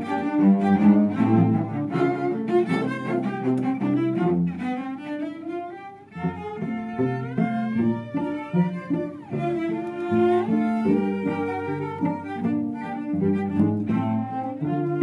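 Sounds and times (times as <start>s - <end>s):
bowed cellos playing: 0.0s - 15.0s.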